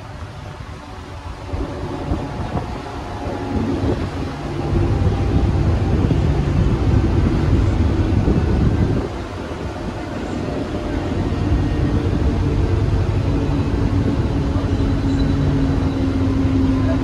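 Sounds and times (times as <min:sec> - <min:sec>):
rushing wind: 0:00.0 - 0:17.0
train wheels rumbling on track: 0:00.0 - 0:17.0.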